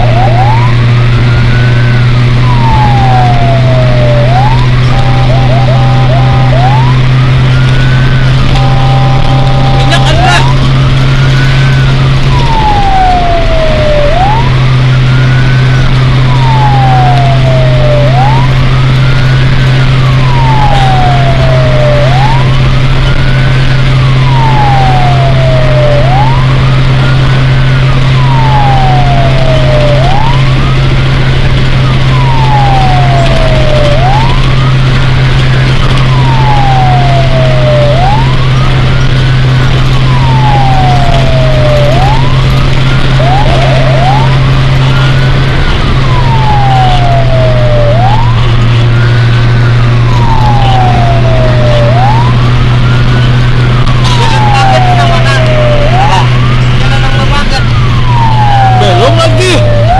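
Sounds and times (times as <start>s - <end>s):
engine droning: 0.0s - 59.9s
fire truck siren wailing: 0.0s - 59.9s.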